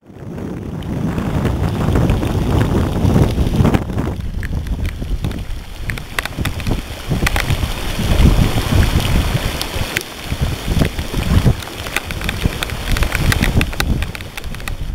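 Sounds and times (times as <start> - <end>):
raindrops ticking on camera: 0.0 - 14.9
wind buffeting microphone: 0.0 - 14.9.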